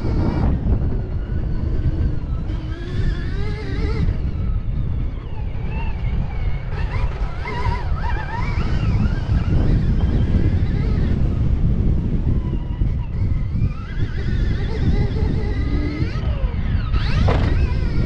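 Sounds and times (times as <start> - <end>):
electric motor whine: 0.0 - 18.0
wind buffeting microphone: 0.0 - 18.0.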